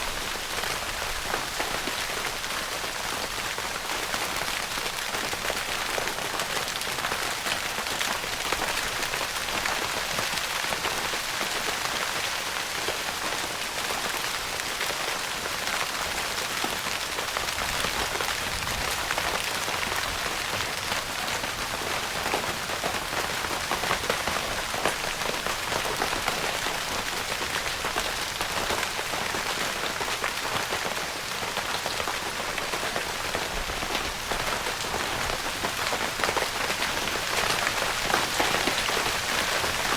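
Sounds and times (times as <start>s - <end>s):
rain pattering on a tent roof: 0.0s - 39.9s.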